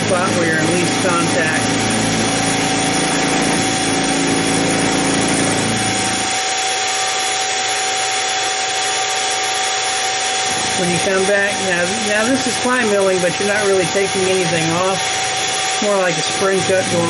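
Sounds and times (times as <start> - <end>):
end mill cutting metal: 0.0 - 17.0
milling machine motor whine: 0.0 - 17.0.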